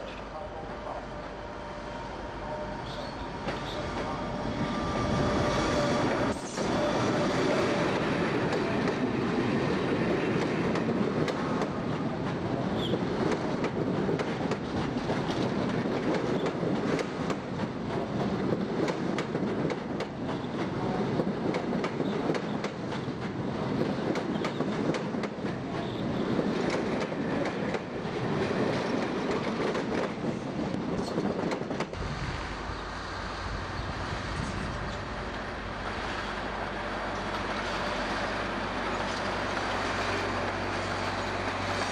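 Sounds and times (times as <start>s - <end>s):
train wheels rattling on rails: 2.8s - 41.9s.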